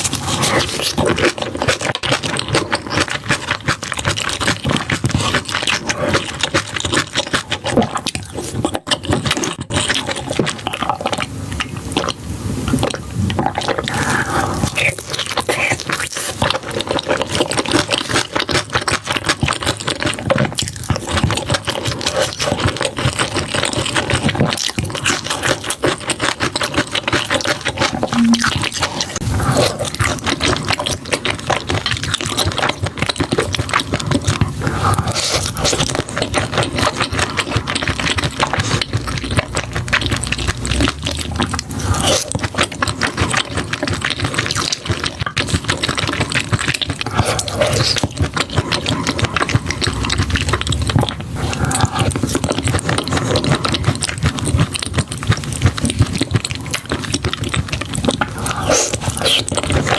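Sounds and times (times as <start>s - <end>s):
chewing and slurping food: 0.0s - 59.9s.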